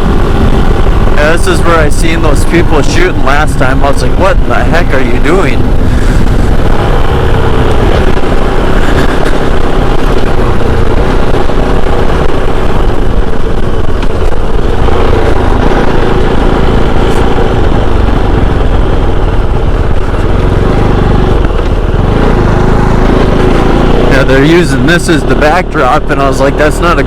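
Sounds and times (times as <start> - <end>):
motorcycle engine running: 0.0 - 27.0
wind noise: 0.0 - 27.0.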